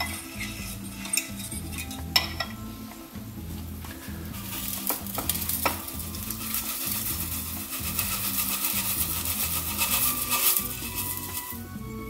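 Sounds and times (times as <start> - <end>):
solution sizzling and crackling: 0.0 - 2.6, 3.6 - 11.8.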